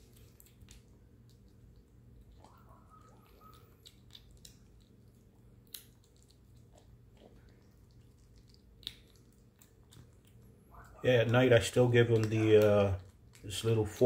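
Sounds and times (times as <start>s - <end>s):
kitten chewing kibble: 0.0s - 14.0s.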